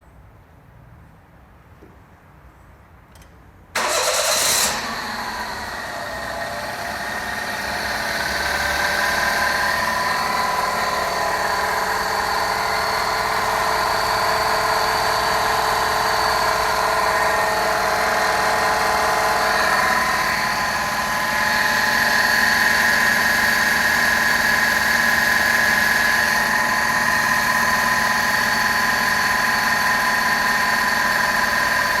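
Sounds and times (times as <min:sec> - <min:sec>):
engine whine: 0:03.2 - 0:32.0
car engine starting: 0:03.7 - 0:32.0
car engine idling: 0:03.8 - 0:32.0.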